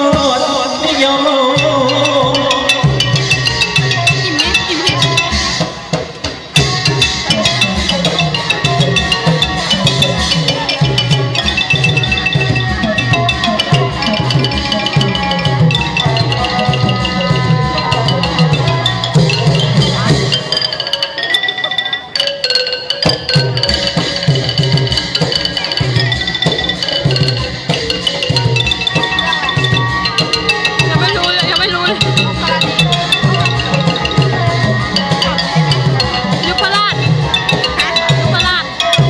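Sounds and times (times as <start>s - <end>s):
drums and wooden percussion: 0.0s - 39.0s
wooden xylophone melody: 0.0s - 39.0s.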